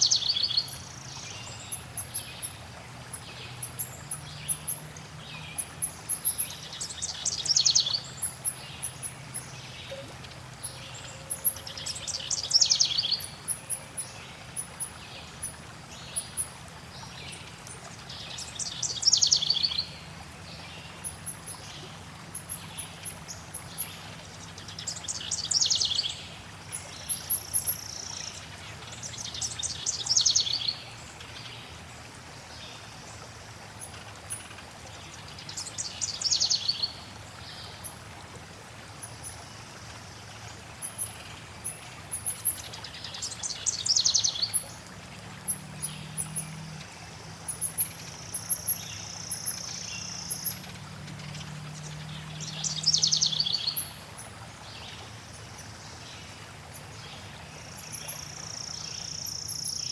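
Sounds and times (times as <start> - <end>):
flowing water hiss: 0.0 - 59.9.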